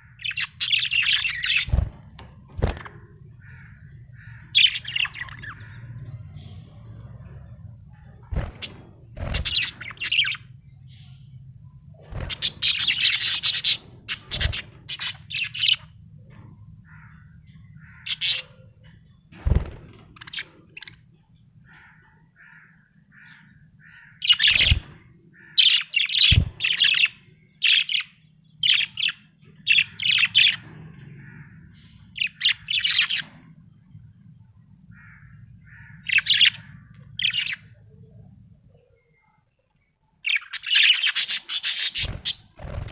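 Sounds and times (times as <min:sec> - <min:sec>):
faint low hum: 0:00.0 - 0:40.5.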